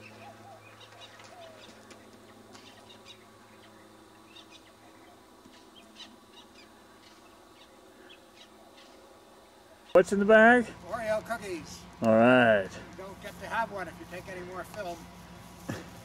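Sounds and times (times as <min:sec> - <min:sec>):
birds chirping: 0:00.0 - 0:16.0
low electrical hum: 0:00.0 - 0:16.0.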